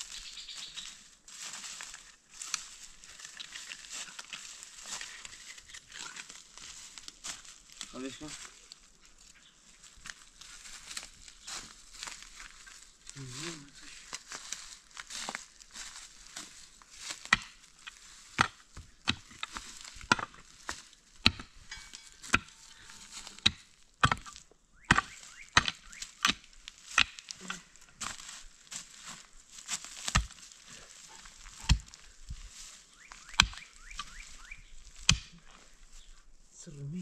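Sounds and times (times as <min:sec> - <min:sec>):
earth and dry leaves rustling: 0:00.0 - 0:37.0
mattock striking stony soil: 0:00.6 - 0:08.8, 0:10.0 - 0:35.8.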